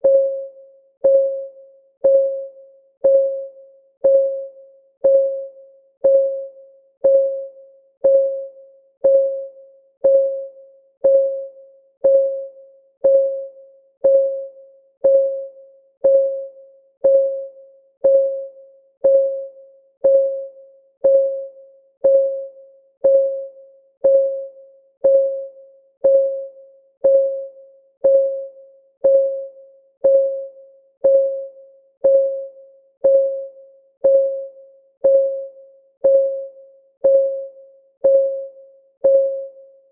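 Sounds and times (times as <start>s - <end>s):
timer ticking: 1.0s - 39.6s.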